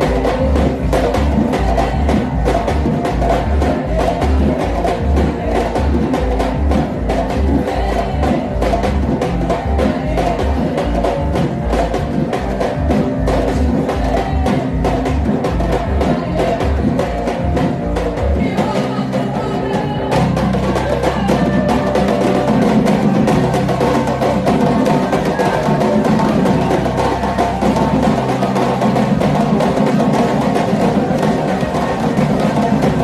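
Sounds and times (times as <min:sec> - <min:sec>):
deep bass: 0:00.0 - 0:33.0
heavy drum percussion: 0:00.0 - 0:33.0
live band music: 0:00.0 - 0:33.0.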